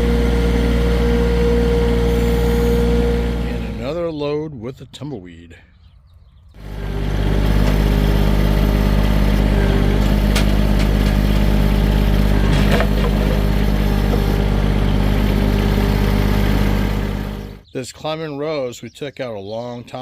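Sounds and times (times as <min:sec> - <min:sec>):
vehicle engine running: 0:00.0 - 0:04.7, 0:05.5 - 0:17.7.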